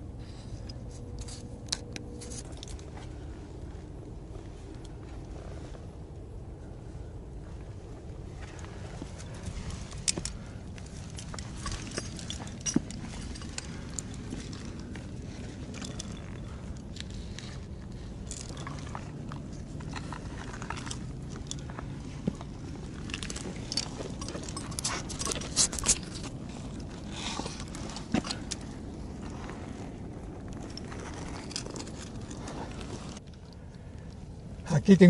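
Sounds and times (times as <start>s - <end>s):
steady low rumble: 0.0s - 35.0s
climbing gear clicks and scrapes: 0.2s - 5.8s, 7.5s - 34.3s.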